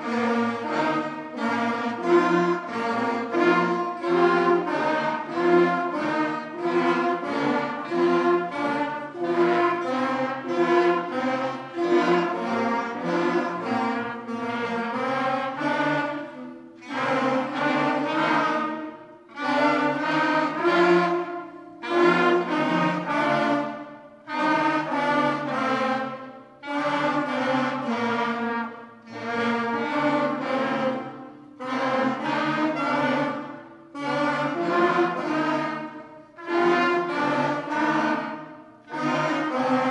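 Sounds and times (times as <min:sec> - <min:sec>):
student band playing scales: 0:00.0 - 0:39.9.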